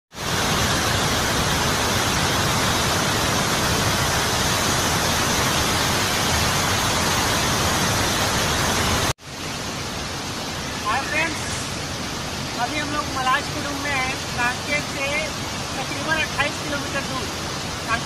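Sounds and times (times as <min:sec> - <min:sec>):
waterfall pouring over rocks: 0:00.1 - 0:18.0.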